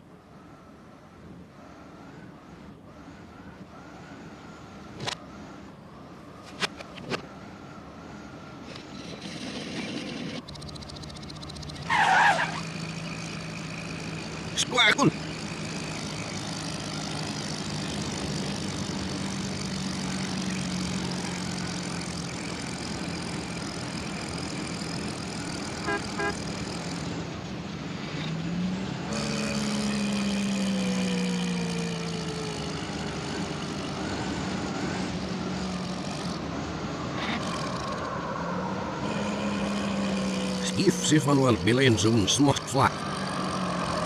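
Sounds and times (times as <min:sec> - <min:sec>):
reversed cartoon engine hum: 0:07.2 - 0:44.0.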